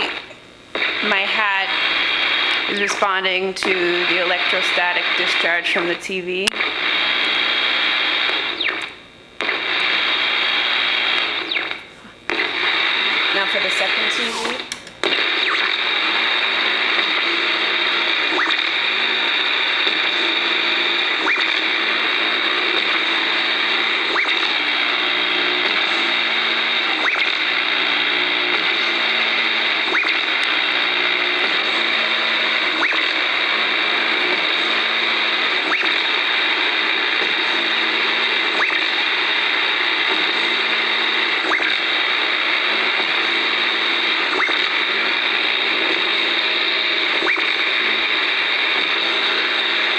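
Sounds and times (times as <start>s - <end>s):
radio static hiss: 0.0s - 49.9s.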